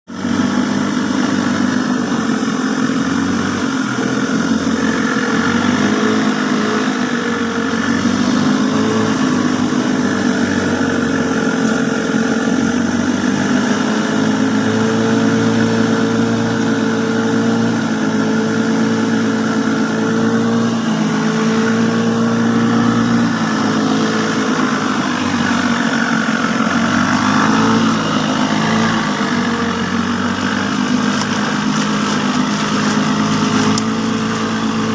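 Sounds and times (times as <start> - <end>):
motor engine running steadily: 0.0 - 34.9.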